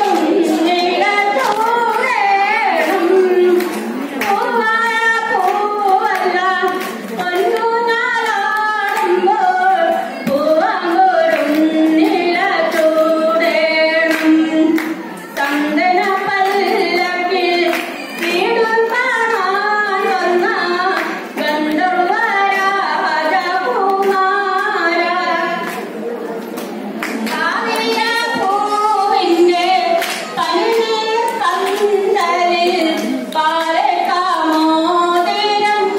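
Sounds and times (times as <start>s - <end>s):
woman singing over loudspeakers: 0.0s - 26.0s, 27.0s - 35.9s.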